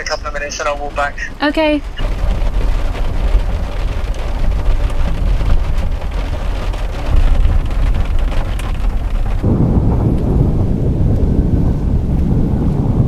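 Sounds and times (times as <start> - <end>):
deep rumble: 0.0 - 13.0
heavy rain drumming on roof: 0.0 - 13.0.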